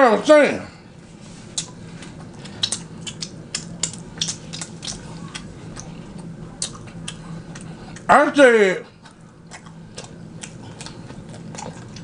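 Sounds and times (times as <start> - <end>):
faint low hum: 0.0 - 12.0
person chewing food: 1.1 - 8.1, 8.9 - 12.0.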